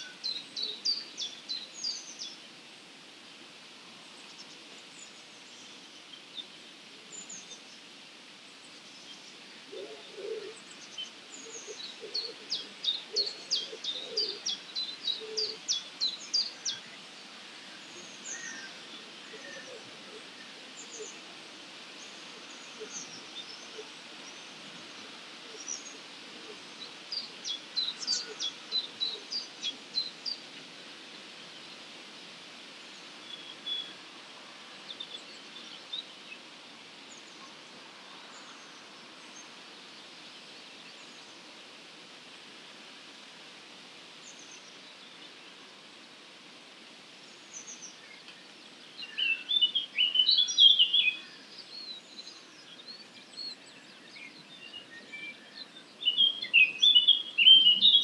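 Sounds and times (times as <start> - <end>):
songbirds singing: 0.0 - 2.8, 3.9 - 42.8, 43.9 - 58.0
faint background hiss: 0.0 - 58.0.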